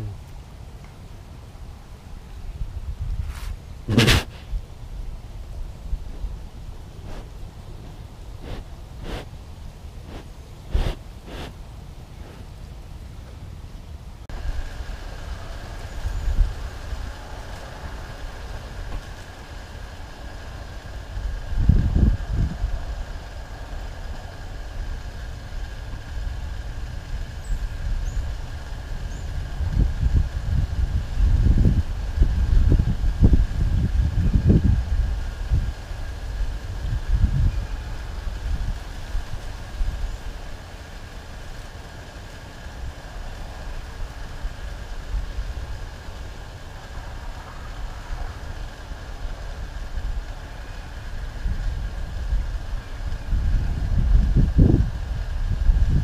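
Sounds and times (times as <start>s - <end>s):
wind rumble on microphone: 1.6s - 12.7s, 13.7s - 56.0s.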